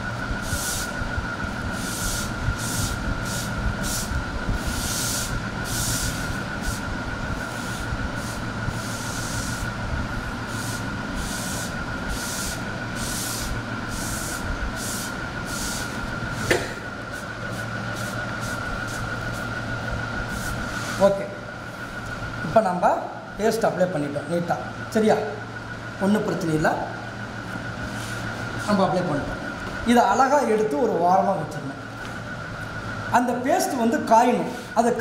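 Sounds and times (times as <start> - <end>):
steady high whine: 0.0 - 35.0.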